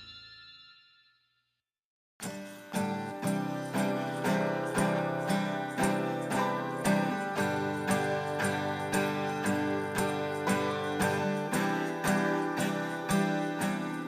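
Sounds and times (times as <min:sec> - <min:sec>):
guitar chords ringing: 0:02.2 - 0:14.0.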